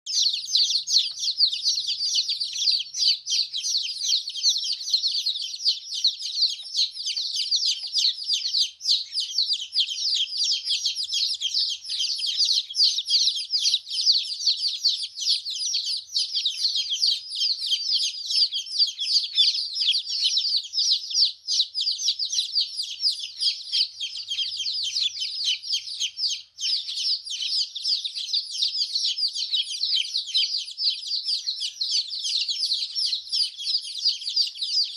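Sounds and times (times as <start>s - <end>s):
baby chicks chirping: 0.0s - 34.9s.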